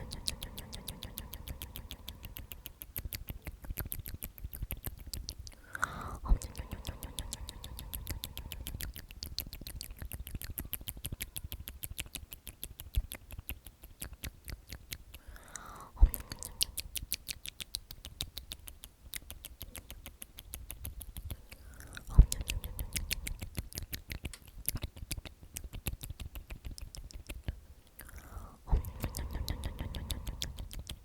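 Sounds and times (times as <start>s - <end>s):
wet mouth clicks: 0.0s - 31.0s.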